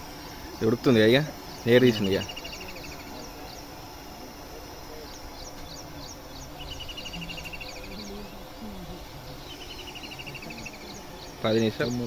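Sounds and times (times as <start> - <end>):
bird trilling: 0.0 - 3.9, 5.0 - 12.0
birds chirping: 0.0 - 12.0
outdoor background noise: 0.0 - 12.0.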